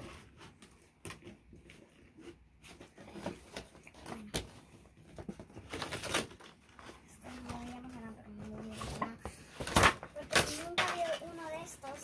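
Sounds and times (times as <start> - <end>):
cardboard packaging rustling: 0.0 - 12.0.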